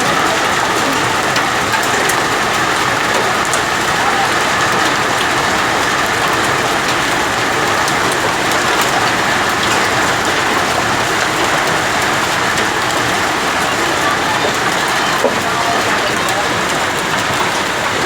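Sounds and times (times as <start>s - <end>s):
heavy rain on hard surfaces: 0.0s - 18.0s.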